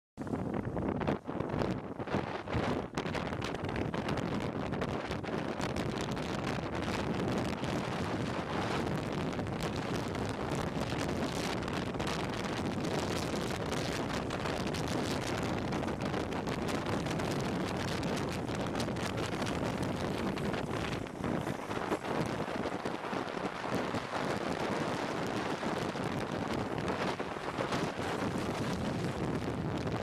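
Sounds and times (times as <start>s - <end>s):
wind buffeting microphone: 0.2s - 30.0s
longboard wheels rolling on asphalt: 0.4s - 30.0s.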